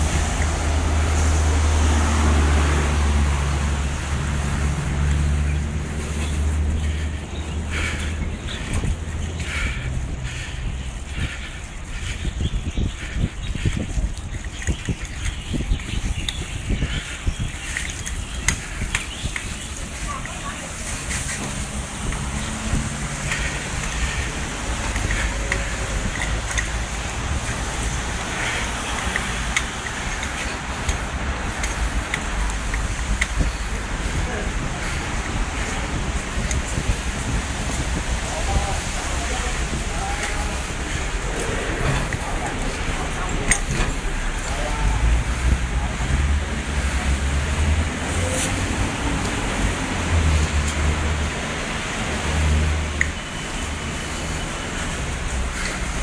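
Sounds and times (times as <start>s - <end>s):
traffic on wet road: 0.0s - 56.0s
wind rumble on microphone: 0.0s - 56.0s.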